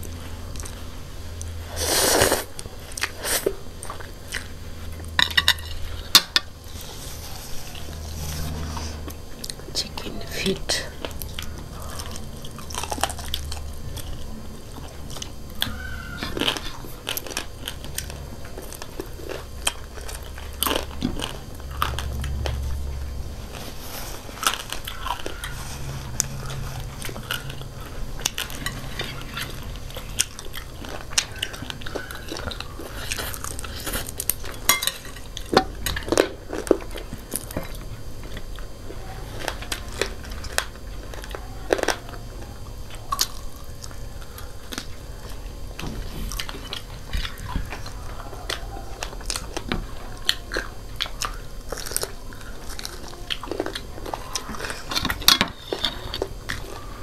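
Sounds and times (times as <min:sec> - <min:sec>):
people chewing crunchy food: 0:00.0 - 0:57.0.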